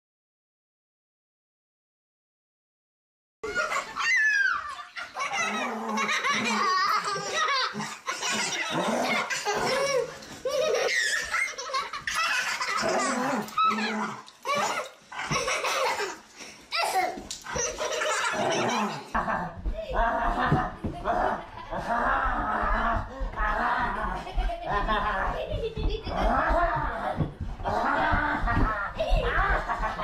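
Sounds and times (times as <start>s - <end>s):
child laughing hard: 3.4s - 16.2s, 16.8s - 30.0s.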